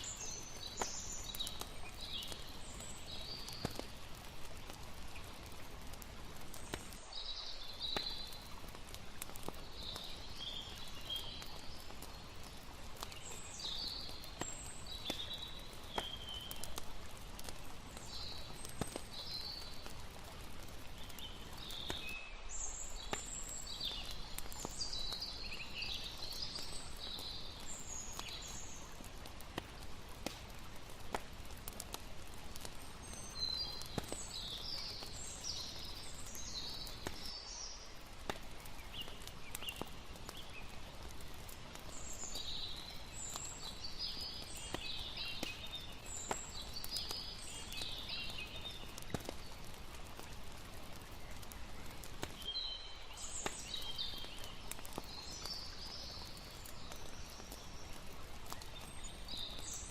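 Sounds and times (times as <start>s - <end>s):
campfire crackles: 0.0s - 59.9s
river water hiss: 0.0s - 59.9s.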